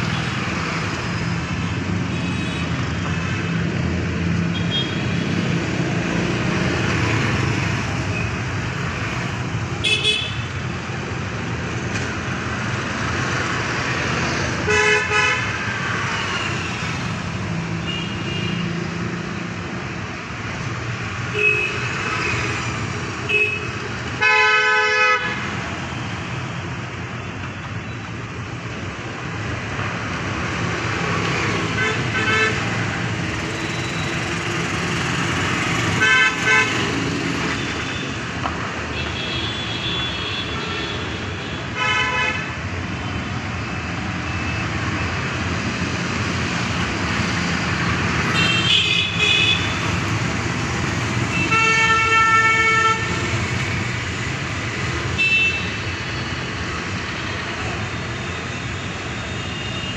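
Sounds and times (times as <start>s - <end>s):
traffic engine and tyre hum: 0.0s - 59.9s.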